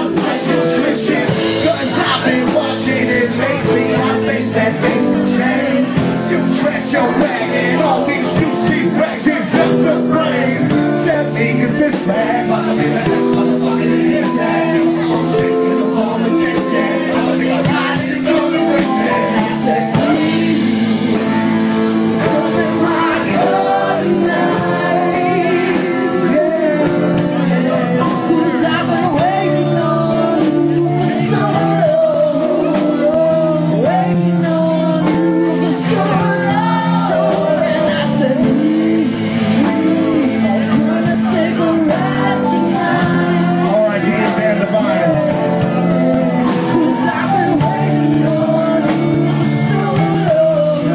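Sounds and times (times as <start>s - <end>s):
live band playing: 0.0s - 50.9s
person singing: 0.0s - 50.9s.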